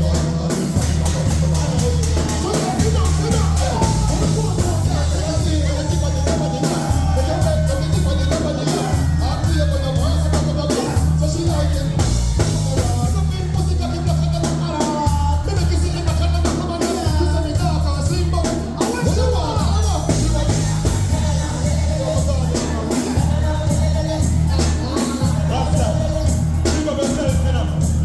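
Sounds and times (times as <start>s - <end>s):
person singing over music: 0.0s - 17.1s, 18.8s - 27.9s
dancehall music with heavy bass: 0.0s - 28.0s.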